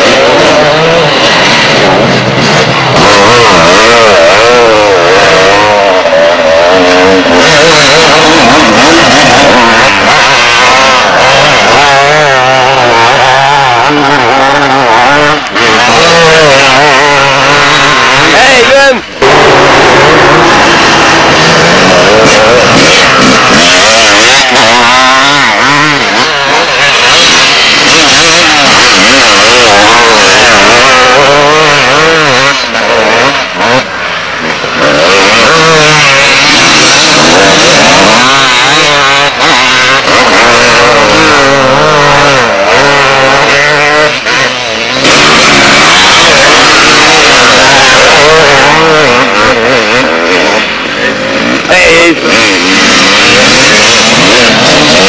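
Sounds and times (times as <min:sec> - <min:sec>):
motocross bikes revving: 0:00.0 - 0:55.0.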